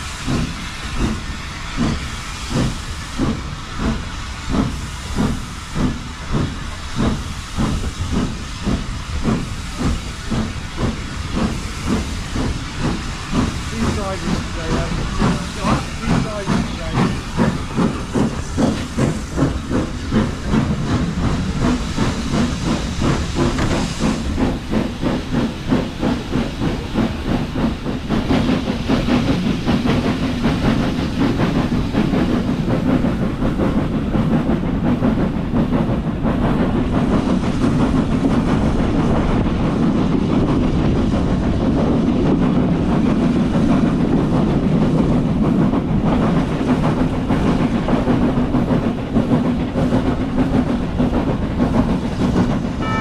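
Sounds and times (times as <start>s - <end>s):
steam hissing: 0.0s - 53.0s
steam locomotive exhaust chuffing: 0.0s - 53.0s.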